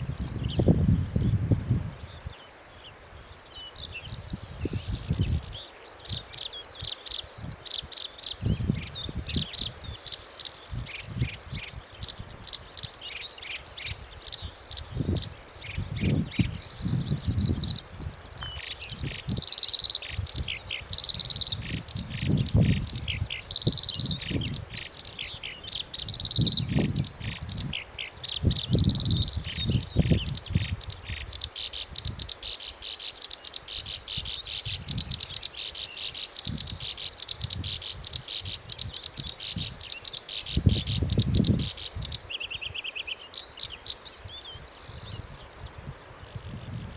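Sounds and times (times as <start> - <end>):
warbler singing buzzy trills: 0.0 - 46.9.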